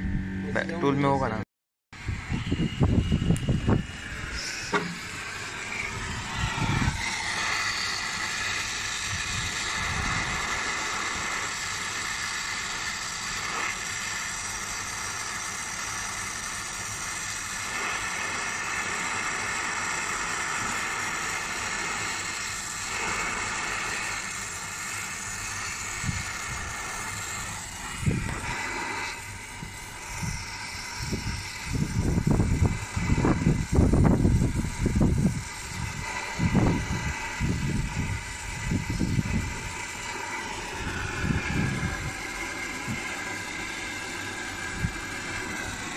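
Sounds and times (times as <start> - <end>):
gas torch hissing: 2.0 - 45.9.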